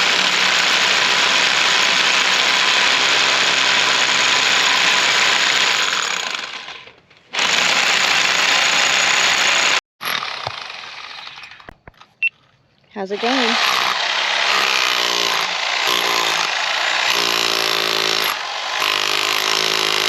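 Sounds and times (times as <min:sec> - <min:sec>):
hammer drill on concrete: 0:00.0 - 0:11.7, 0:13.1 - 0:20.0.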